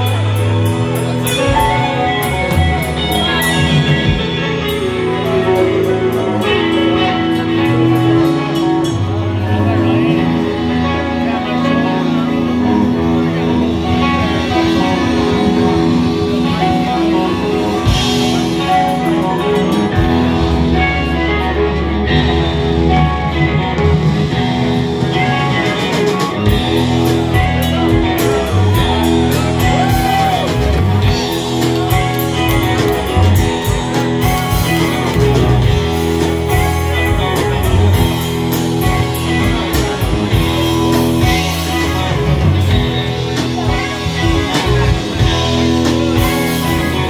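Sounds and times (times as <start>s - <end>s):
rock band playing live: 0.0s - 47.0s.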